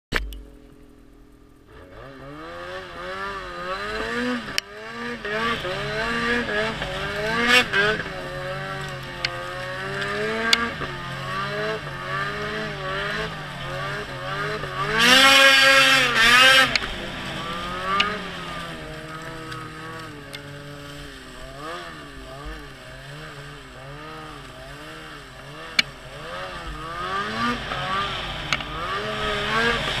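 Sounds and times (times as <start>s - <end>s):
snowmobile engine running: 0.9s - 30.0s.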